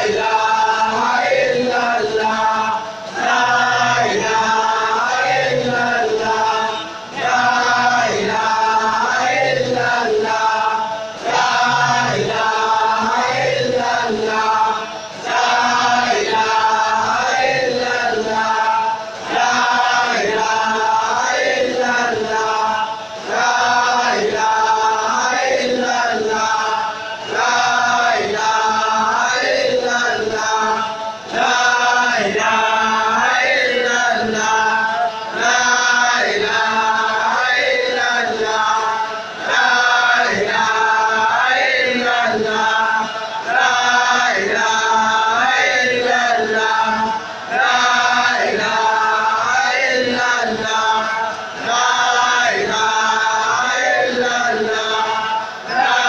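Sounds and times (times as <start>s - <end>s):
men chanting together: 0.0s - 56.0s.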